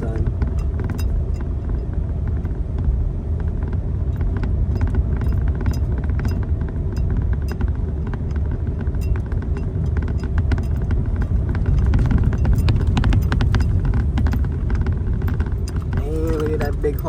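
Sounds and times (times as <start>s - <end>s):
car engine and tyres rumbling: 0.0s - 17.0s
gravel clicks and knocks: 0.0s - 17.0s.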